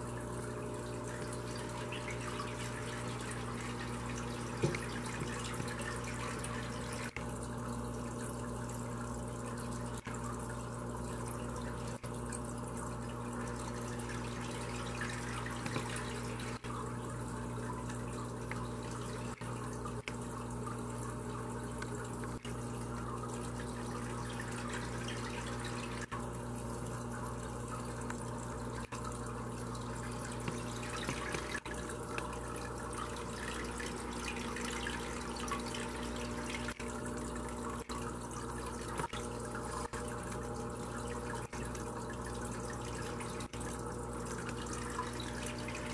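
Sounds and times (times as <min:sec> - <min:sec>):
low filter hum: 0:00.0 - 0:45.9
water trickling and splashing: 0:00.0 - 0:45.9.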